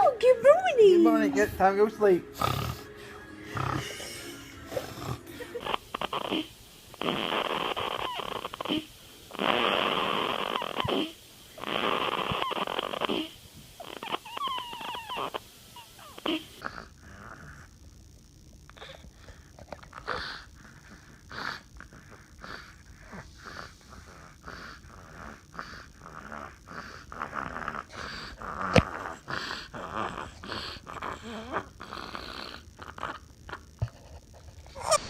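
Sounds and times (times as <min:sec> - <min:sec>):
baby snoring: 0:01.7 - 0:17.8, 0:18.7 - 0:34.0, 0:34.7 - 0:35.0.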